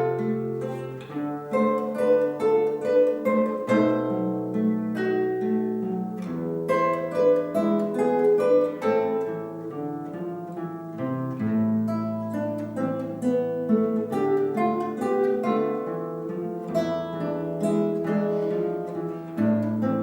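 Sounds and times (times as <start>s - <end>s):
acoustic guitar solo: 0.0s - 20.0s.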